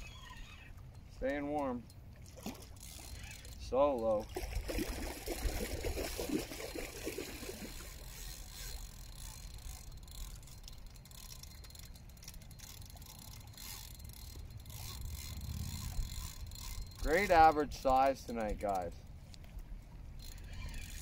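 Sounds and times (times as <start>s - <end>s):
fishing reel clicking: 0.0s - 2.0s, 2.6s - 4.3s, 5.3s - 18.8s, 20.2s - 21.0s.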